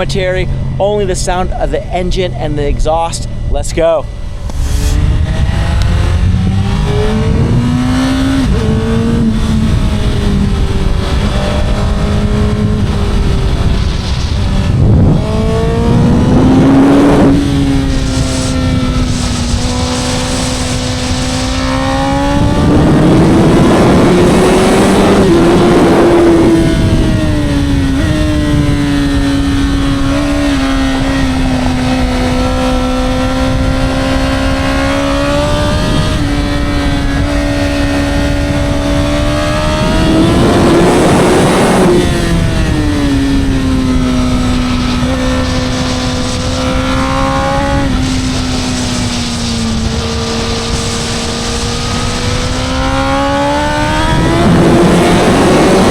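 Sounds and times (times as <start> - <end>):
motorcycle engine and exhaust: 0.0 - 55.9
rushing wind noise: 0.0 - 55.9.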